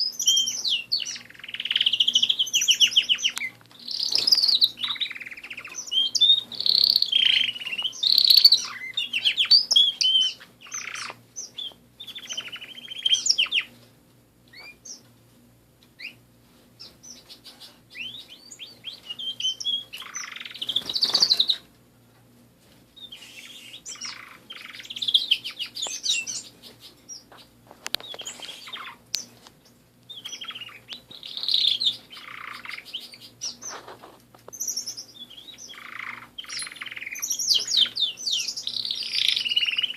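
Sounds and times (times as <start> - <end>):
canaries singing: 0.0 - 15.2, 15.9 - 21.8, 22.9 - 39.9.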